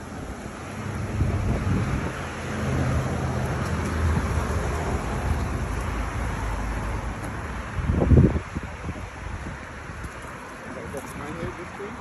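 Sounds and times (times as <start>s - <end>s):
cars passing: 0.0s - 12.0s
wind rumble on microphone: 0.1s - 11.6s.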